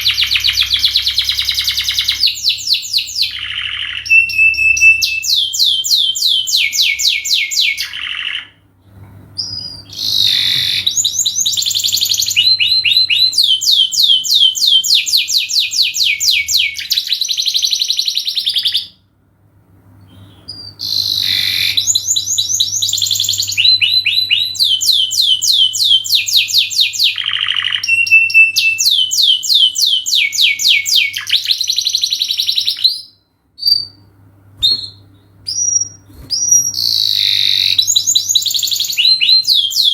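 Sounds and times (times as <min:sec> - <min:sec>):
canary singing trills: 0:00.0 - 0:08.6, 0:09.4 - 0:19.0, 0:20.0 - 0:39.9
faint low hum: 0:00.0 - 0:39.9.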